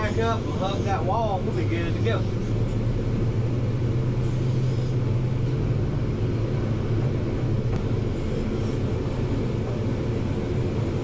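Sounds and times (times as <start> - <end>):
dump truck diesel engine drone: 0.0 - 11.0.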